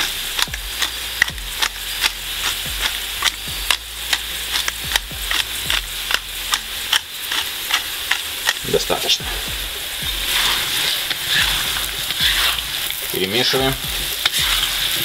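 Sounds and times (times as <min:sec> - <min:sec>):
potatoes sizzling in hot oil: 0:00.0 - 0:15.0.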